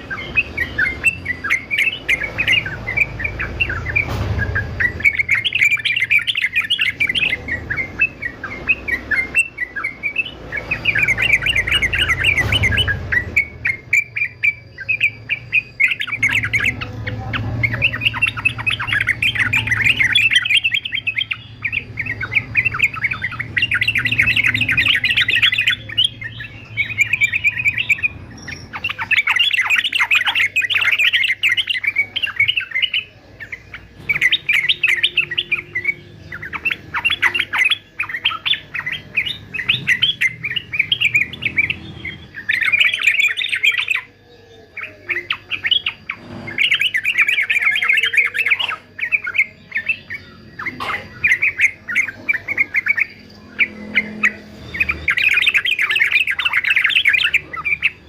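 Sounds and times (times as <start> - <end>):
bird chattering chirps: 0.0 - 58.0.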